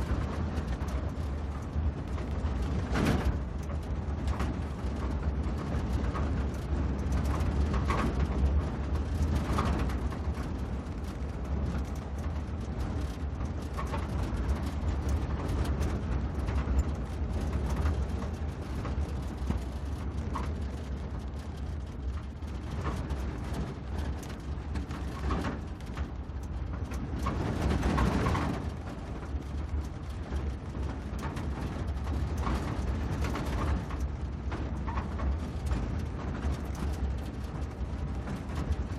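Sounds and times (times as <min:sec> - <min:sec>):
vehicle engine rumble: 0:00.0 - 0:38.9
vehicle rattles and knocks: 0:00.0 - 0:38.9.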